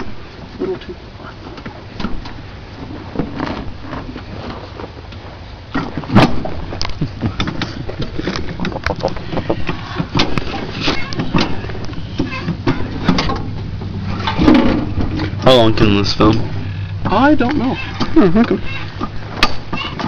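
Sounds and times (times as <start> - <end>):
engine parts clunking: 0.0 - 20.0
steady low hum: 0.0 - 20.0.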